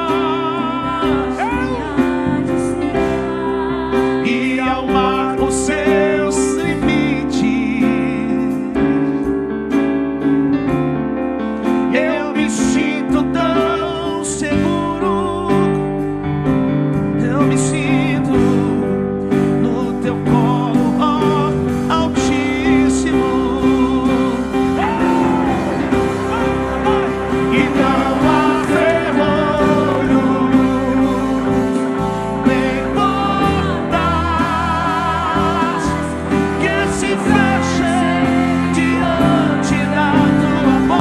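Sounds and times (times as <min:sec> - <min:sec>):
person singing: 0:00.0 - 0:08.7, 0:11.9 - 0:15.9, 0:17.2 - 0:41.0
sustained keyboard chords: 0:00.0 - 0:41.0.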